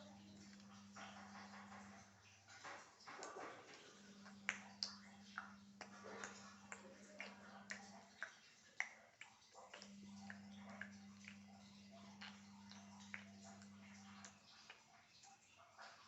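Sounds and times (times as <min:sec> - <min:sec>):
faint hum: 0:00.0 - 0:15.3.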